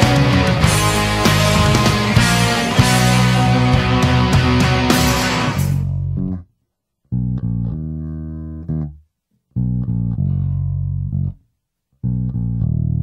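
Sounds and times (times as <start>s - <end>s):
bass guitar sustained notes: 0.0s - 6.5s, 7.1s - 9.0s, 9.6s - 11.4s, 12.0s - 13.0s.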